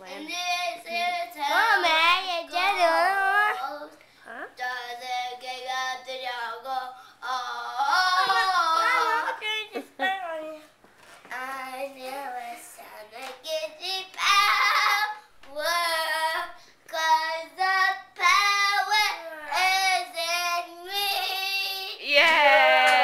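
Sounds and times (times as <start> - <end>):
girl singing unaccompanied: 0.0 - 9.8, 10.5 - 23.0.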